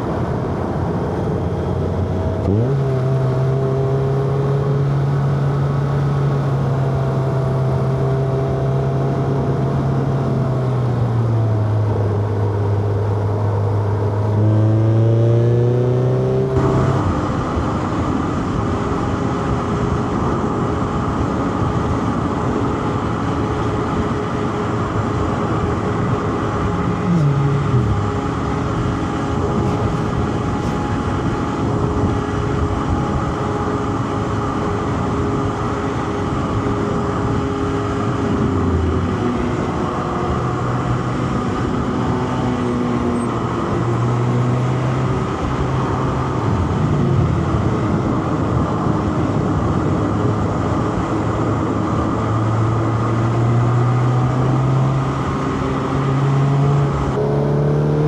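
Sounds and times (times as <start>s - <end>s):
car engine pulling uphill: 0.0s - 58.0s
tyre and road noise: 0.0s - 58.0s.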